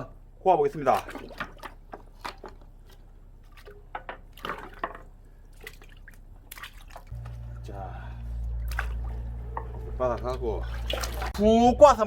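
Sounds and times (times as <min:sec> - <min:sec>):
wet squelches: 0:00.6 - 0:11.5
water dripping and splashing: 0:00.6 - 0:11.6.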